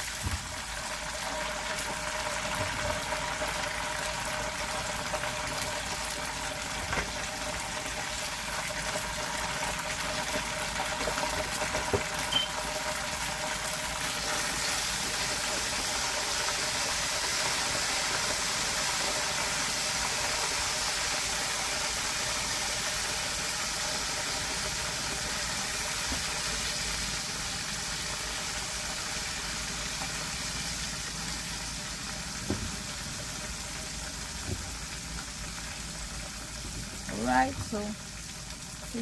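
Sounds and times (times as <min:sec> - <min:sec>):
chicken deep-frying in oil: 0:00.0 - 0:39.0.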